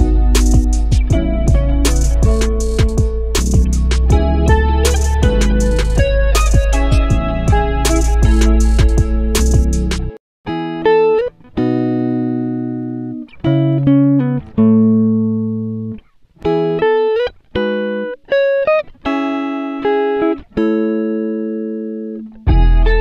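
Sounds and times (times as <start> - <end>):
plucked string notes and chords: 0.0 - 23.0.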